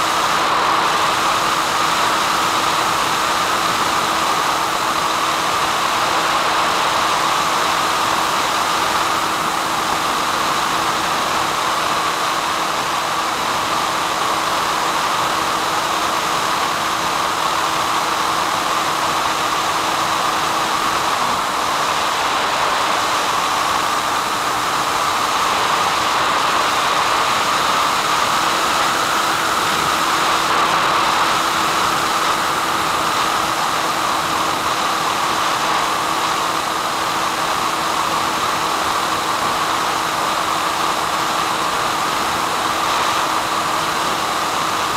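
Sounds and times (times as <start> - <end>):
static hiss: 0.0 - 44.9.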